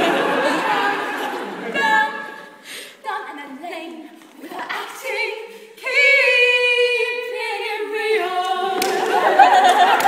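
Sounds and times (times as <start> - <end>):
female trio singing a cappella: 0.0 - 10.0.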